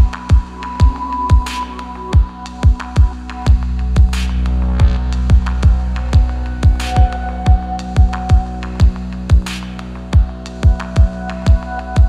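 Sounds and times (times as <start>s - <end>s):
deep kick drum: 0.0s - 1.5s, 2.2s - 9.5s, 10.2s - 12.0s
electronic music: 0.0s - 12.0s
sustained low bass: 0.0s - 12.0s.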